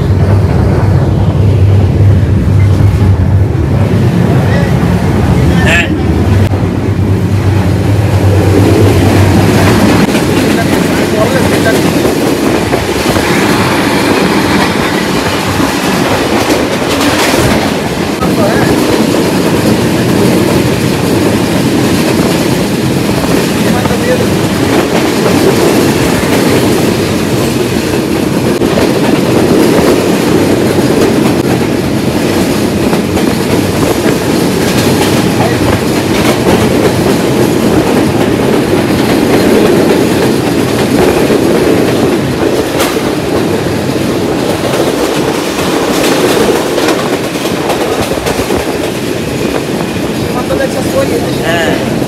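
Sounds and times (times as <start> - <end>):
train wheels rumbling on rails: 0.0 - 52.0
clickety-clack of rail joints: 7.6 - 52.0.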